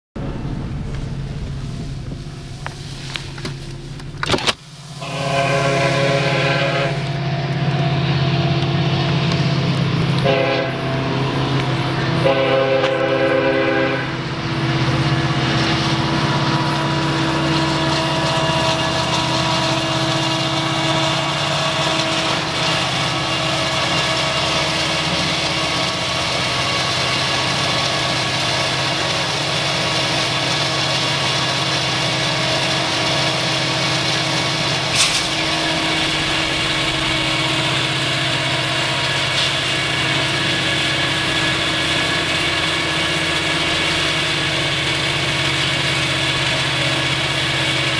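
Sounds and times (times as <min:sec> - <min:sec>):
engine hum: 0:00.1 - 0:47.9.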